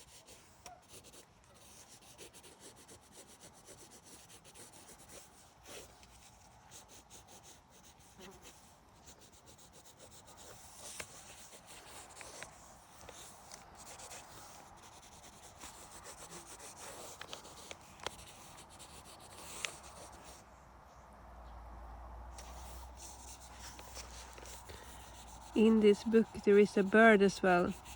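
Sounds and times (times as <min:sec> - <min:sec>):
pencil scratching on paper: 0:00.0 - 0:20.4, 0:22.4 - 0:27.9.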